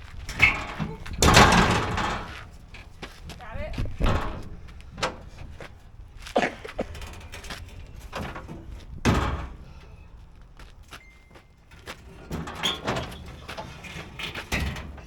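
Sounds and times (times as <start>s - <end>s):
knocks and clanks: 0.0s - 15.0s.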